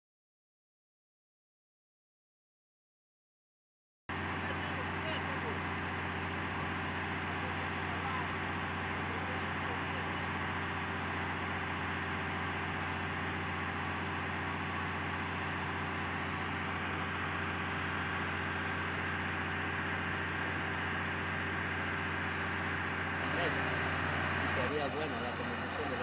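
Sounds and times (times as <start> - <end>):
motor hum: 4.1 - 26.0
water churning and spraying: 4.4 - 26.0.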